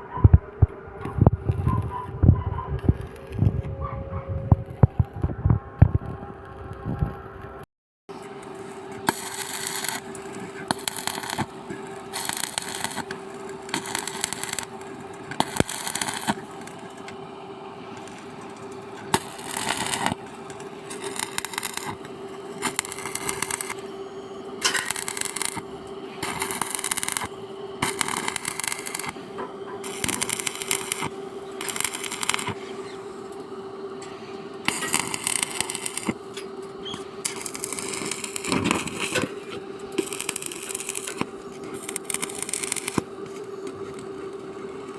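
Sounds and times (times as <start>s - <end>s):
steady hum: 0.0s - 44.9s
arc welding crackling: 0.6s - 3.8s, 4.4s - 44.9s.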